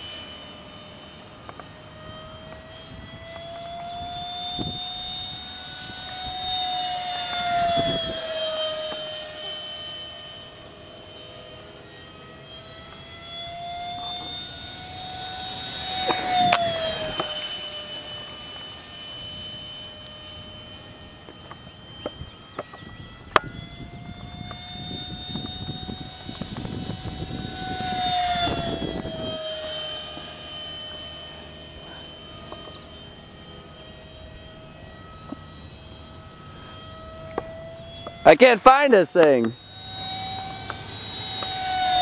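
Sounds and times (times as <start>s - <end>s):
model jet fan whining: 0.0s - 42.0s.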